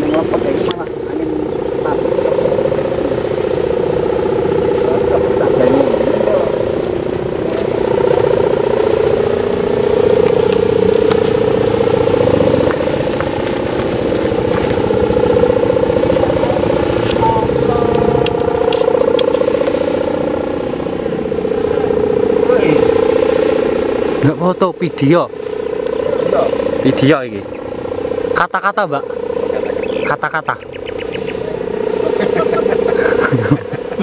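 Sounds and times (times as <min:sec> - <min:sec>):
kite hummer buzzing in wind: 0:00.0 - 0:34.0.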